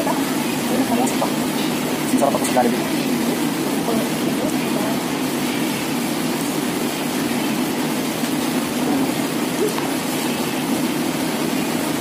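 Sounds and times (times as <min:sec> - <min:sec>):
restaurant background rumble: 0:00.0 - 0:12.0.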